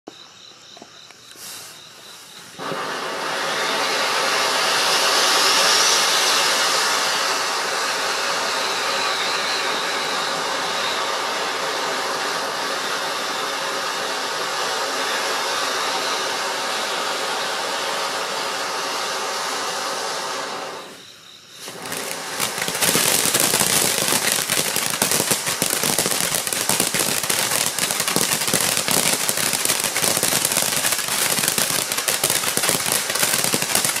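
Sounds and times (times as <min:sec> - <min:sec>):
firework sparks hissing: 0:01.2 - 0:34.0
firework rapid crackling: 0:01.3 - 0:21.0, 0:21.6 - 0:34.0.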